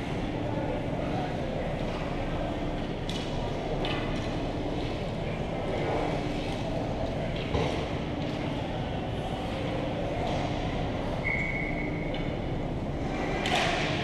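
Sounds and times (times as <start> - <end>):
ice rink noise: 0.0 - 14.0.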